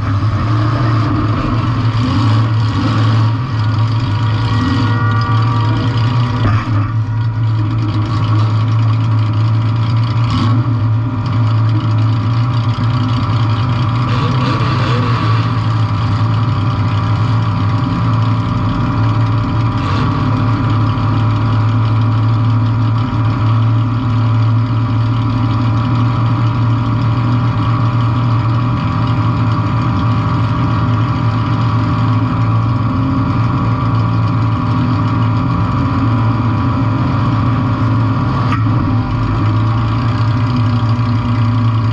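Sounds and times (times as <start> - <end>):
car engine running loud: 0.0 - 41.9.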